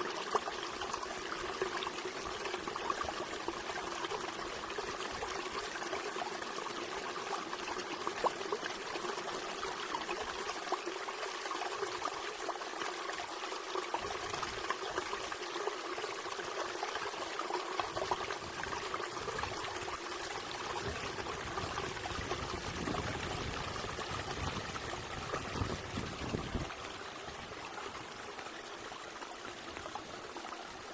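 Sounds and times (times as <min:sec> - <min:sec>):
water trickling and splashing: 0:00.0 - 0:30.9.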